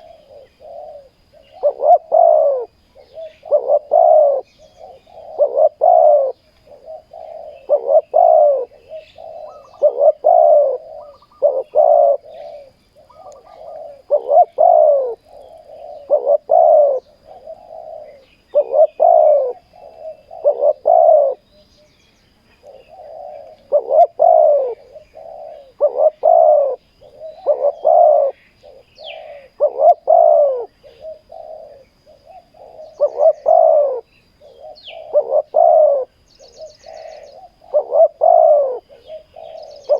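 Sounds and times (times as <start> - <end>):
doves cooing: 0.0 - 21.9, 22.5 - 39.9.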